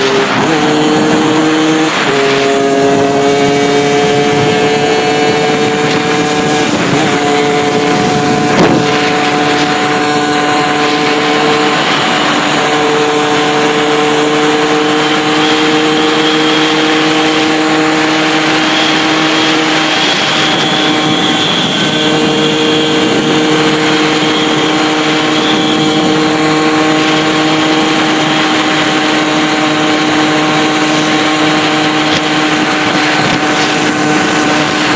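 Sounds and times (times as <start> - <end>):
moped engine running hard: 0.0 - 34.9.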